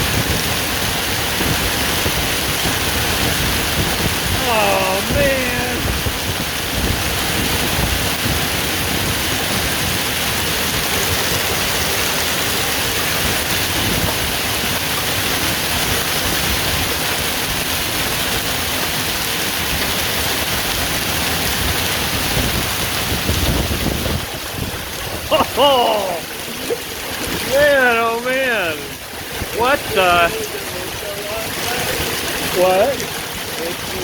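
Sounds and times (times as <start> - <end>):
hail and heavy rain pelting: 0.0 - 34.0.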